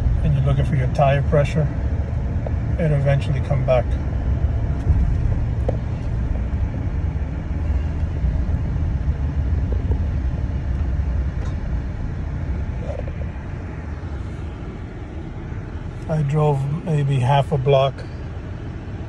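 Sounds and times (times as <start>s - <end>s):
diesel truck engine rumble: 0.0s - 19.0s
road noise: 0.0s - 19.0s.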